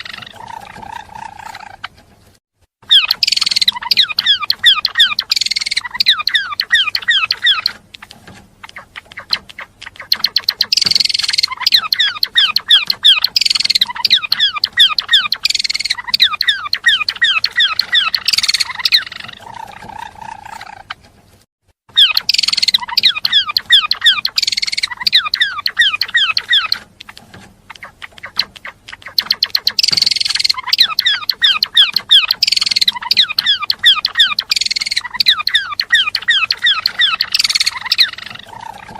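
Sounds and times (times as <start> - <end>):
songbird singing: 2.8 - 21.0, 21.9 - 38.9.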